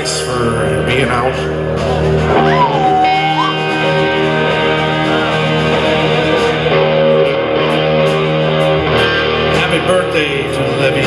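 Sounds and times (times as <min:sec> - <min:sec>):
electric guitar chords with effects: 0:00.0 - 0:11.0.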